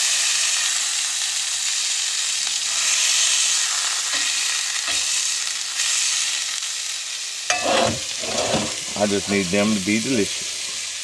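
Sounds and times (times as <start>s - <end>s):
sausage sizzling in a pan: 0.0s - 11.0s.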